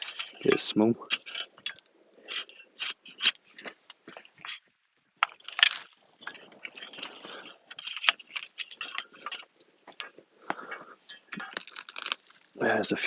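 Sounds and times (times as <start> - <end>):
soil scraping and rustling: 0.0 - 13.0.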